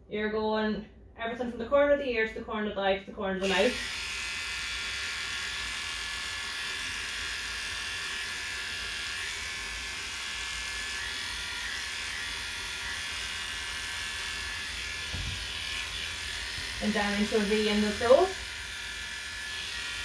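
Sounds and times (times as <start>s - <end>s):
electric clippers buzzing: 3.4s - 20.0s.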